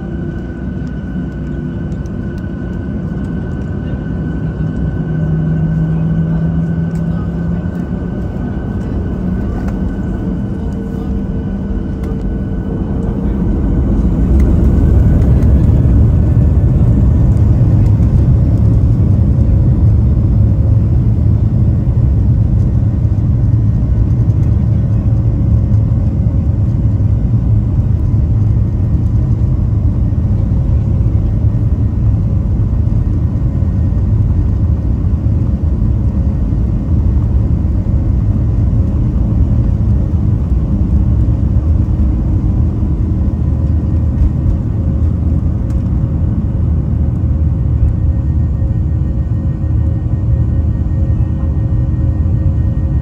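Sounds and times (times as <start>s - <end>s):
aircraft rolling down runway: 0.0s - 53.0s
jet engines rumbling in cabin: 0.0s - 53.0s.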